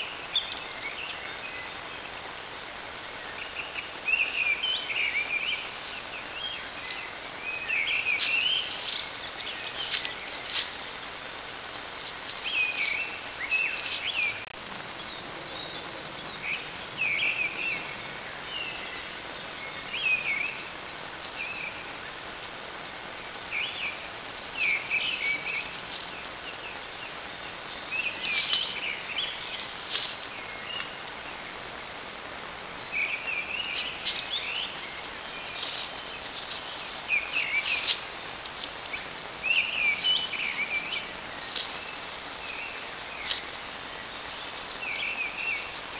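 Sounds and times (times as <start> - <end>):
songbirds chirping: 0.0 - 45.9
steady background hiss: 0.0 - 45.9.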